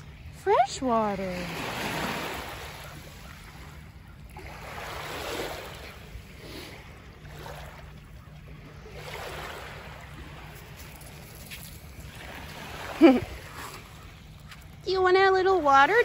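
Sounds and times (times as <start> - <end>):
waves lapping on pebbly shore: 0.0 - 3.7, 4.4 - 7.9, 8.8 - 16.0.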